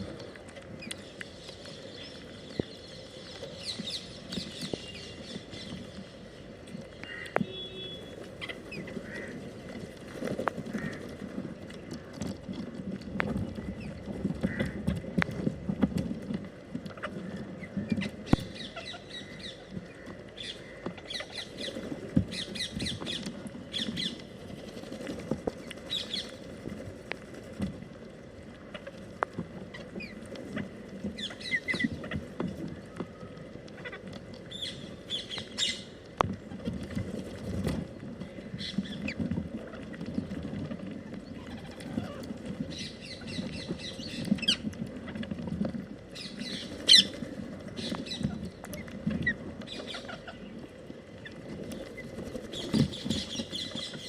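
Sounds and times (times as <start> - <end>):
low background rumble: 0.0 - 54.0.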